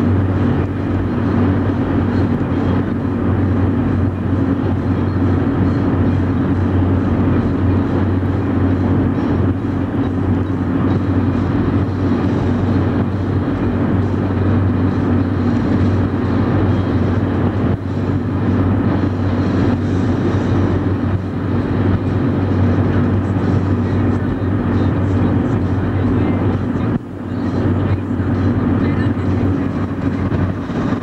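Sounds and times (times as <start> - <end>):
low engine drone: 0.0 - 31.0
road and wind rush: 0.0 - 31.0.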